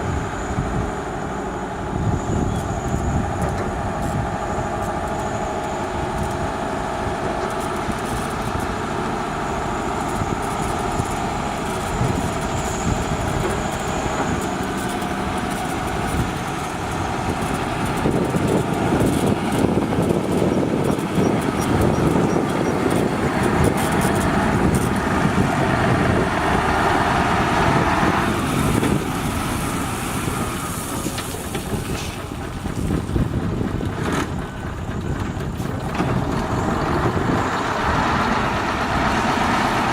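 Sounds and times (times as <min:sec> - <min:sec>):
diesel construction machinery running: 0:00.0 - 0:39.9.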